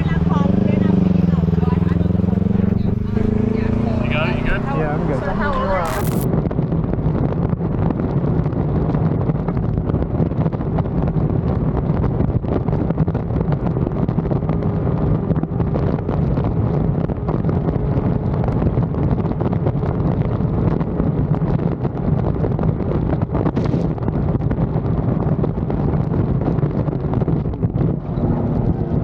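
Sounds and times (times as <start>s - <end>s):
motorcycle engine drone: 0.0s - 29.0s
wind rushing over microphone: 0.0s - 29.0s.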